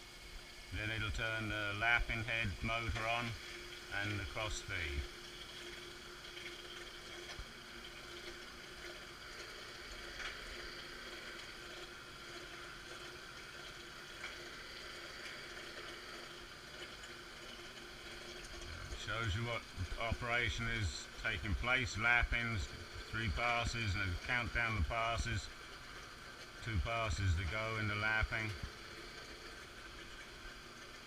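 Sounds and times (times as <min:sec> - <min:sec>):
coolant liquid flowing: 0:00.0 - 0:31.0
coolant pump running: 0:00.0 - 0:31.0
motor humming: 0:00.0 - 0:31.0.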